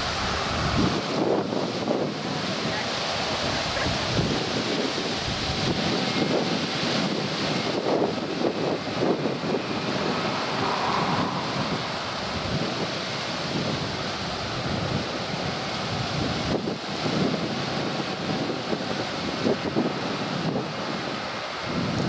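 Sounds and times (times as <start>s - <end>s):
jet engines at take-off: 0.0s - 22.0s
wind buffeting microphone: 0.0s - 22.0s.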